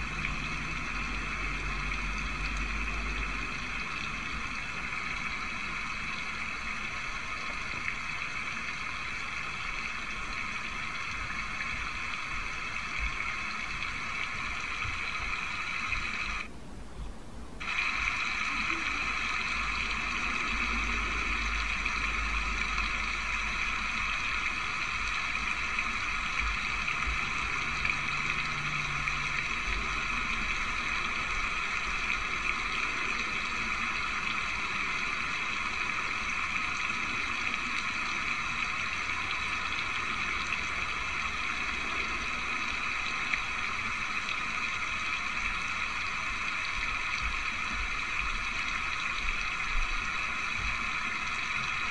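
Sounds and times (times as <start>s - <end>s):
steady background noise: 0.0s - 51.9s.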